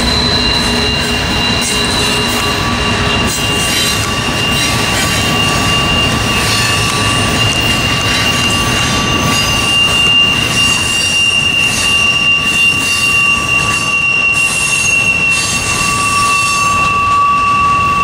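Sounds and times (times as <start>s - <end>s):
rumble of passing train cars: 0.0s - 18.0s
train wheels squealing: 0.0s - 18.0s.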